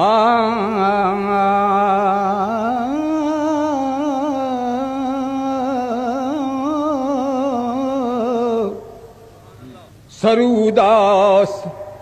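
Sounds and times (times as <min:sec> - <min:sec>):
man singing a long vowel: 0:00.0 - 0:09.1, 0:10.1 - 0:12.0.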